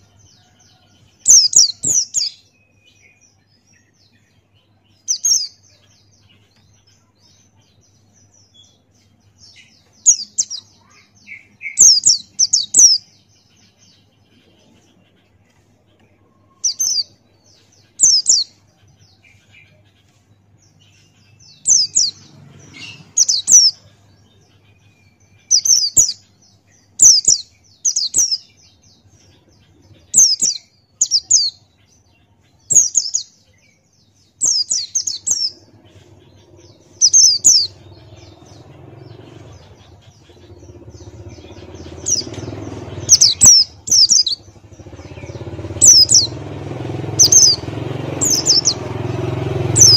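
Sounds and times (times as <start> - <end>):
bird high chirping phrases: 0.0 - 49.9.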